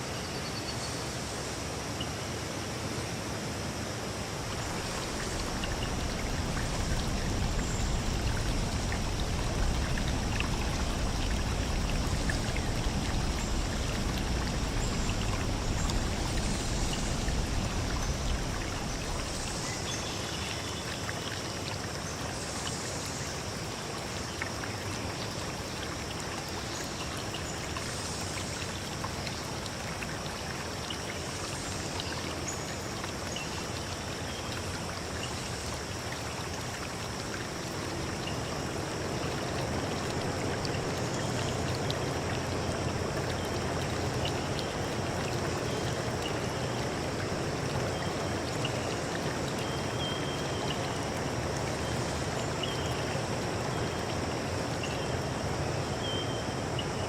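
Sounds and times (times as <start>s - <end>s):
stream rushing: 1.1s - 57.0s.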